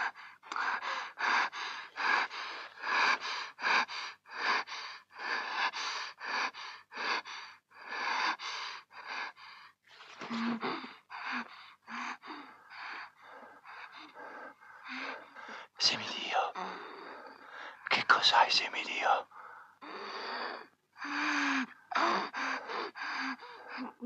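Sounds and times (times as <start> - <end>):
person panting heavily: 0.0 - 9.8, 10.6 - 15.8, 19.3 - 24.0.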